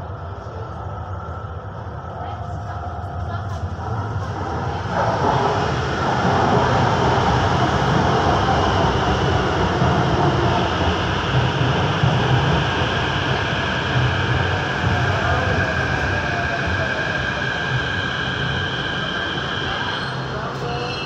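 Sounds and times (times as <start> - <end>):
metro train wheels on rail: 0.0 - 21.0.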